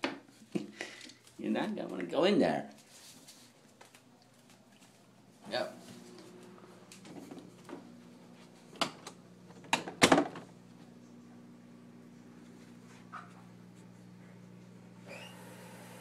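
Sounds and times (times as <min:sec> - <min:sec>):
low steady hum: 0:00.5 - 0:15.9.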